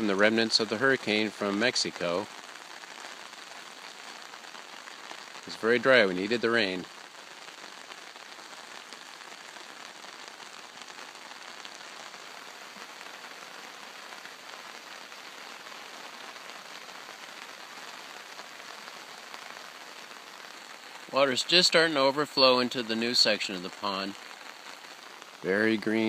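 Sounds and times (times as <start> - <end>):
gentle rain falling: 0.0 - 26.0.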